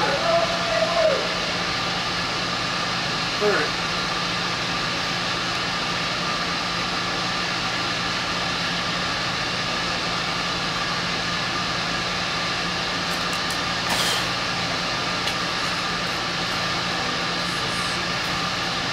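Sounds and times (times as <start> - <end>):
ventilation fans droning: 0.0 - 18.9.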